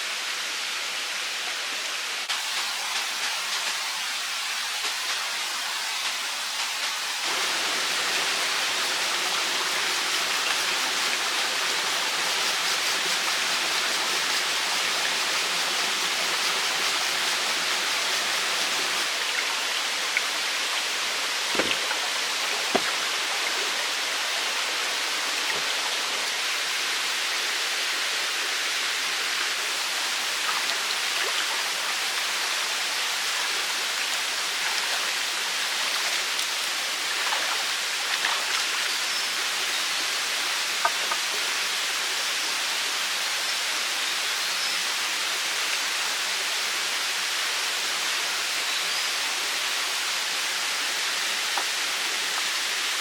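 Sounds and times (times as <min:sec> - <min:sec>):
running water rushing: 0:00.0 - 0:44.2, 0:44.9 - 0:53.0.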